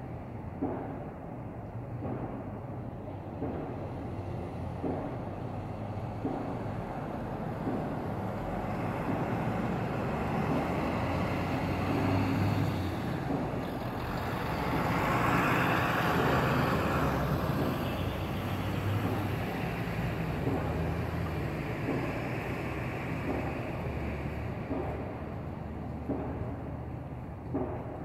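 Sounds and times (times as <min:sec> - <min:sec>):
street traffic: 0:00.0 - 0:28.0
pickup truck passing: 0:03.8 - 0:27.8.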